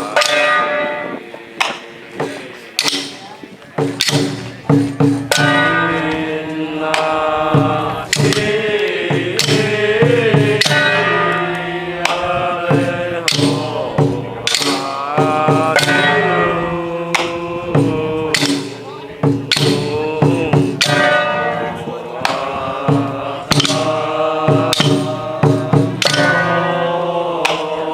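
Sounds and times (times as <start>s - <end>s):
percussion strikes: 0.0s - 27.9s.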